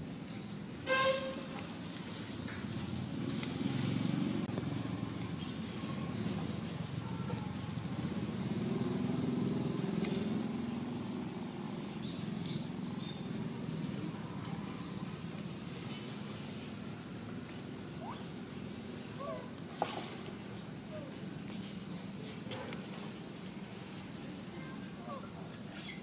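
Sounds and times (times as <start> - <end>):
passing vehicle engine rumble: 1.3 - 25.8.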